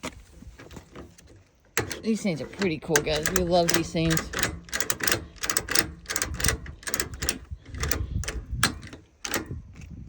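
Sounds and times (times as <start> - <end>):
ratchet strap clicking: 1.2 - 9.6.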